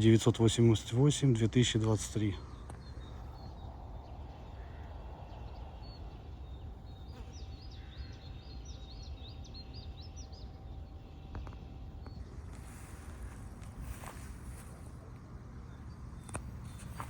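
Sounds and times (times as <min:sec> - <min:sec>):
low outdoor rumble: 0:00.0 - 0:17.0
songbird chirping: 0:00.0 - 0:17.0.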